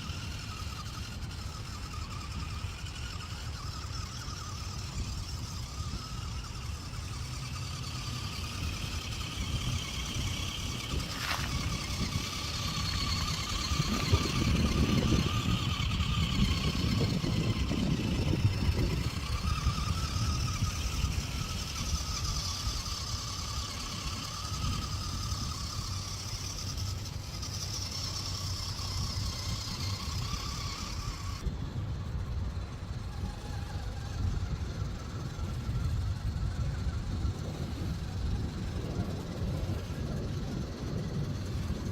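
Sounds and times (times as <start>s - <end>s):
toy truck motor whining: 0.0s - 41.9s.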